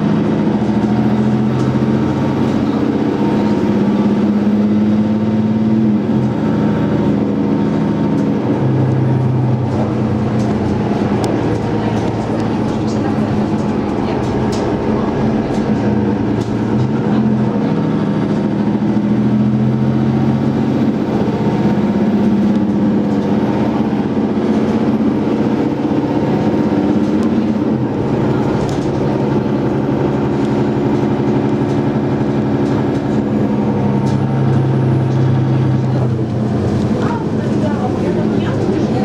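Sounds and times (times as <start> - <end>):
bus engine and gearbox drone: 0.0 - 39.0
road noise: 0.0 - 39.0.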